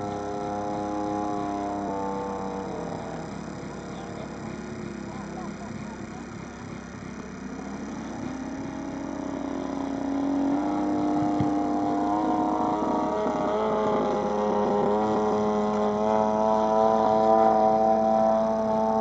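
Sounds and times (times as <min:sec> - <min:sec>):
model airplane engine buzzing: 0:00.0 - 0:19.0.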